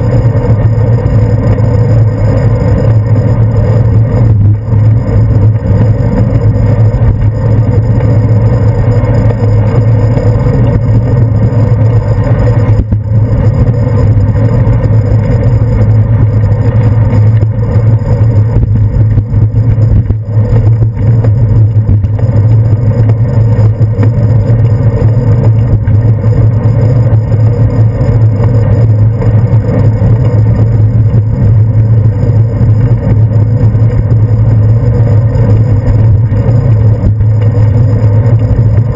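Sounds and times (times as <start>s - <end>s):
deep low hum: 0.0s - 38.9s
wind and road rumble: 0.0s - 38.9s.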